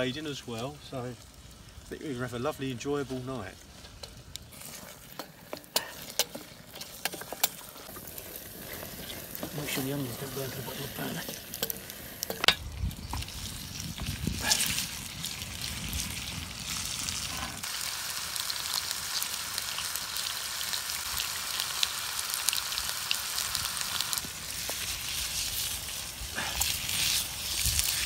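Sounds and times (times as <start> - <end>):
meat sizzling in a frying pan: 3.4 - 28.0.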